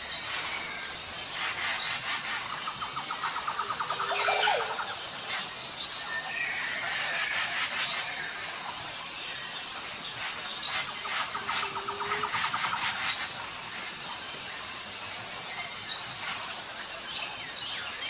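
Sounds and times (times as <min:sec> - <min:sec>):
birds chirping: 0:00.0 - 0:18.0
insect drone: 0:00.0 - 0:18.0.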